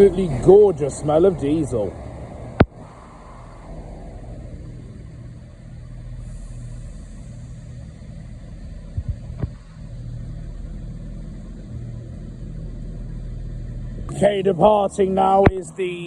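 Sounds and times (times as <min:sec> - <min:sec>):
train diesel engines humming: 0:00.0 - 0:16.0.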